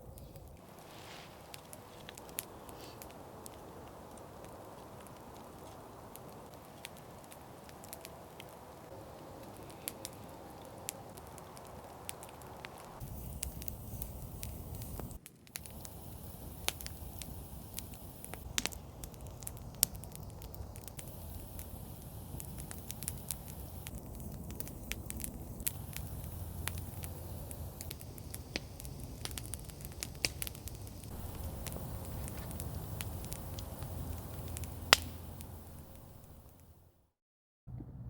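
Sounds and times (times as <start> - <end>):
campfire crackling: 0.0 - 36.9.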